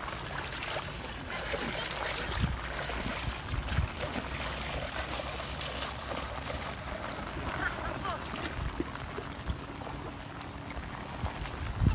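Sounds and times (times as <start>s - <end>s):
water trickling and splashing: 0.0s - 11.9s.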